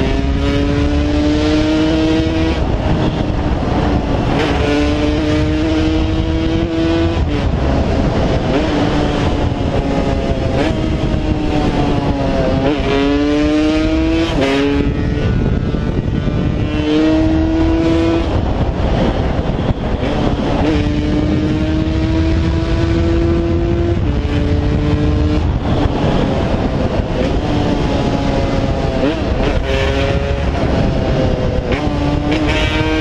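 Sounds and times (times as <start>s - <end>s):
two-stroke engine revving: 0.0s - 15.6s, 19.5s - 33.0s
wind rumble on microphone: 0.0s - 33.0s.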